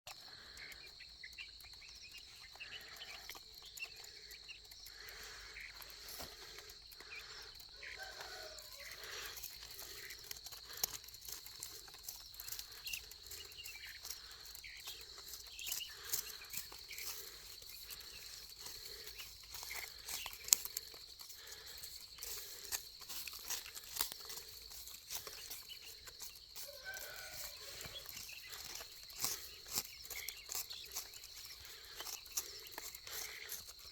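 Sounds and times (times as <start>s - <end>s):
chicks peeping: 0.1s - 33.9s
clicks and rustles on ground: 0.1s - 33.9s
high insect drone: 0.1s - 33.9s.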